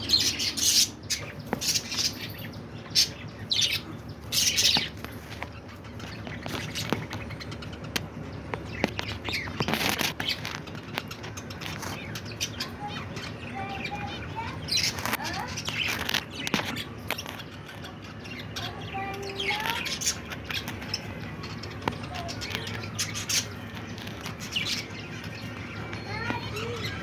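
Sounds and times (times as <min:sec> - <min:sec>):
budgerigars chirping and chattering: 0:00.0 - 0:27.0.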